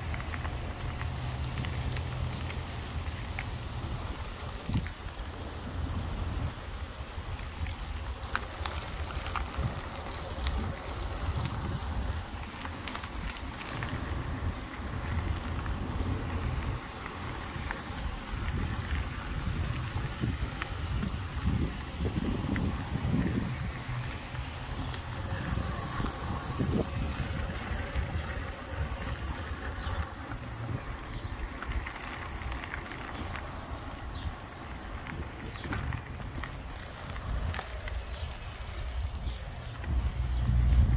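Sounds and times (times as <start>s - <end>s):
bicycle ticks and rattles: 0.0s - 40.9s
tyre hiss on pavement: 0.0s - 40.9s
wind buffeting microphone: 0.0s - 40.9s.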